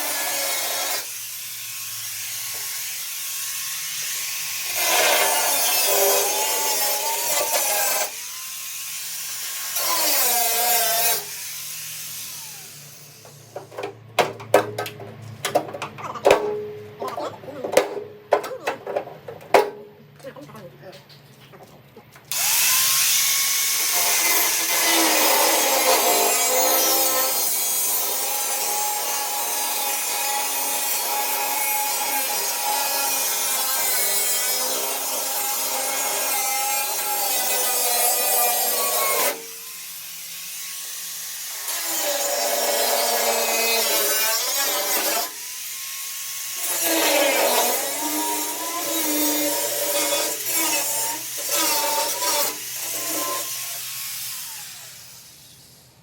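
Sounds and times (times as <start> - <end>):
power tool rasping and whining: 0.0 - 13.4, 22.3 - 55.8.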